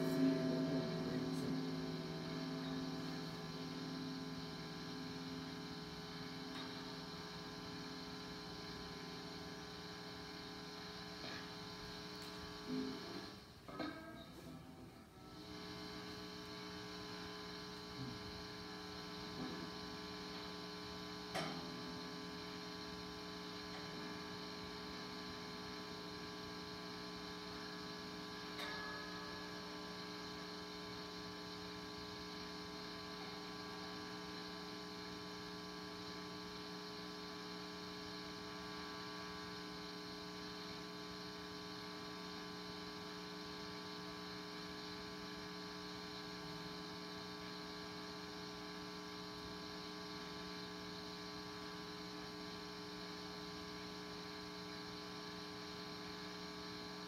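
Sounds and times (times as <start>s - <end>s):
guitar amplifier hum and buzz: 0.0s - 57.0s.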